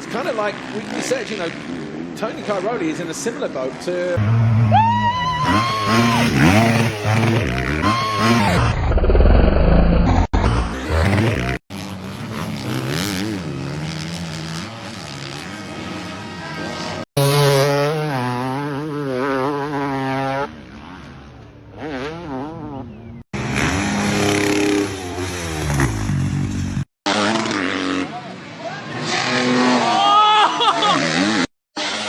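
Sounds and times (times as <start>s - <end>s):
motocross engines revving: 4.1s - 30.1s, 30.8s - 32.0s.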